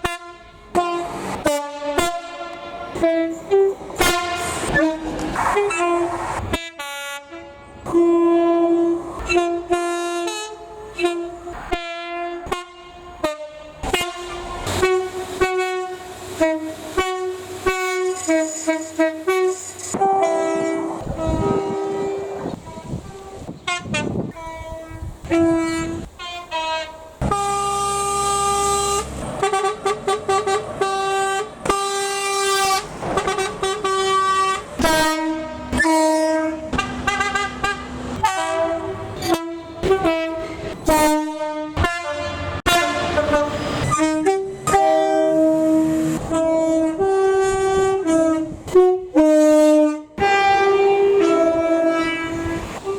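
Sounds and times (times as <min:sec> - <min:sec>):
train air horns tooting: 0:00.0 - 0:52.9.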